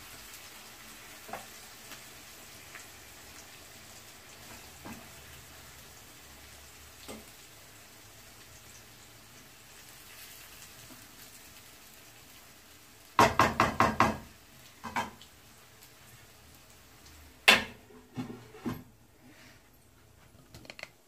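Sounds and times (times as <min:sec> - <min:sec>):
faint sizzle: 0:00.0 - 0:21.0.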